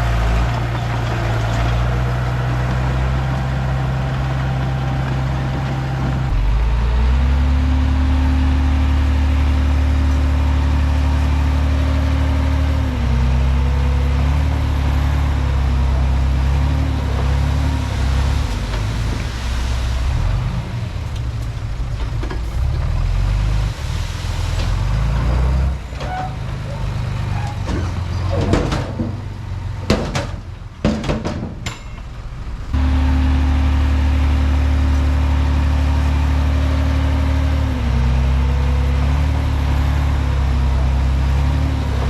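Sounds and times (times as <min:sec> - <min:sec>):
bulldozer diesel engine under load: 0:00.0 - 0:42.0.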